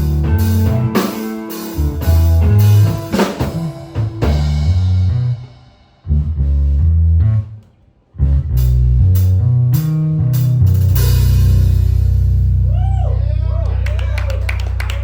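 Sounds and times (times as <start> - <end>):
live rock band playing: 0.0 - 7.5, 8.2 - 13.2.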